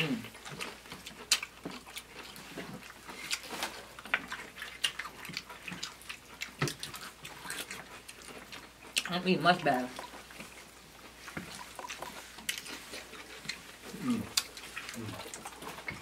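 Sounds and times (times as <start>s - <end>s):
people chewing crunchy chips: 0.0s - 16.0s.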